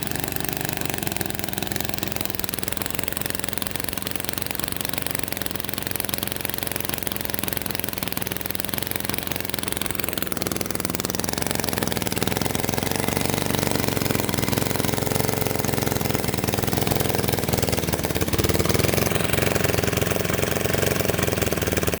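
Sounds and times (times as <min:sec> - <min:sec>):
lawn mower engine idling roughly: 0:00.0 - 0:22.0.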